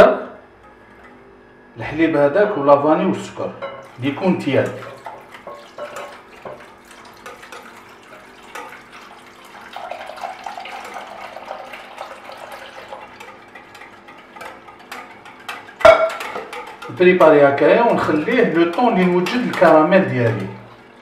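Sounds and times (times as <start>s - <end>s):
milk pouring and splashing: 3.8s - 21.0s.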